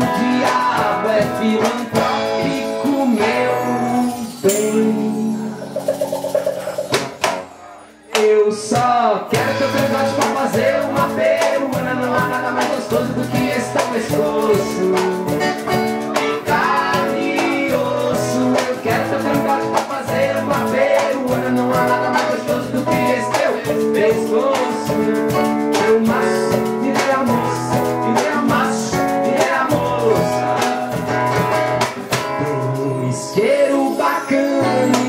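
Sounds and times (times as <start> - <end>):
strummed acoustic guitar: 0.0 - 8.1, 9.2 - 33.7
cajon beat: 0.0 - 35.0
small percussion kit: 0.0 - 35.0.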